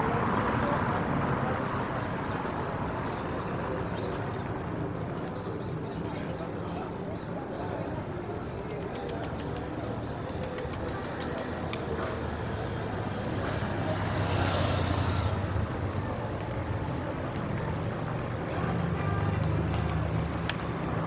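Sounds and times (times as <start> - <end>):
traffic engines running: 0.0 - 21.0.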